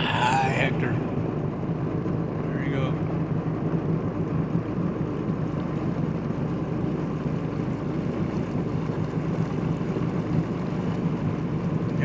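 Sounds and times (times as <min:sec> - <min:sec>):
jet ski engine idling: 0:00.0 - 0:12.0.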